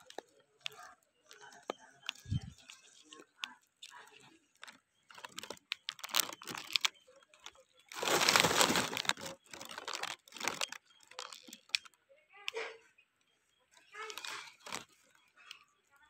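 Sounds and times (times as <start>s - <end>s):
leaves and twigs rustling: 0.0s - 11.9s, 13.8s - 15.7s
twigs snapping: 0.0s - 11.9s, 14.0s - 15.6s.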